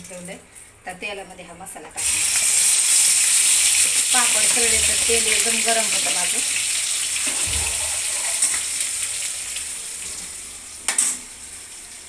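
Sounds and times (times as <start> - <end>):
masala paste sizzling in oil: 2.0 - 12.0.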